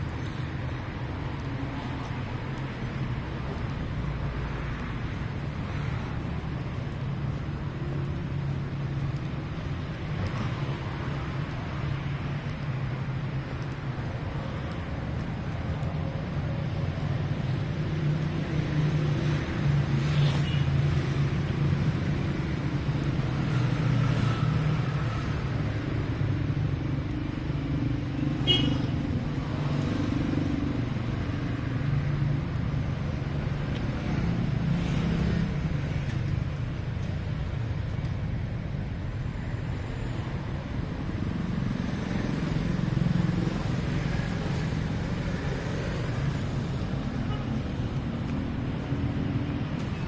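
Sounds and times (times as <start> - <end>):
car and motorcycle engines passing: 0.0 - 50.0.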